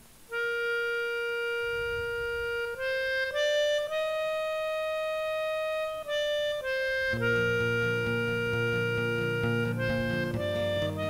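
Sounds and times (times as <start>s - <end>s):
free-reed instrument melody: 0.0s - 11.0s.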